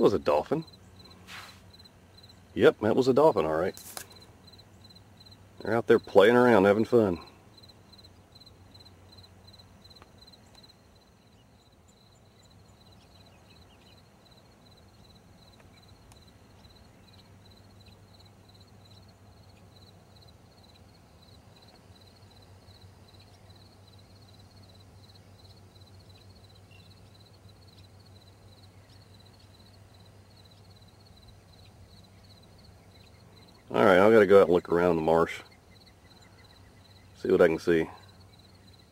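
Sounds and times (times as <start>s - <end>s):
insect chirping: 0.0s - 38.9s.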